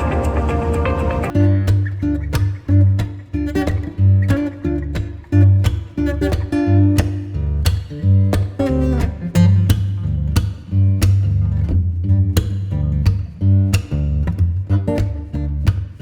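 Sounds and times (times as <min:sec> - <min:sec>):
acoustic guitar picking and strumming: 0:00.0 - 0:16.0
steady bass line: 0:00.0 - 0:16.0.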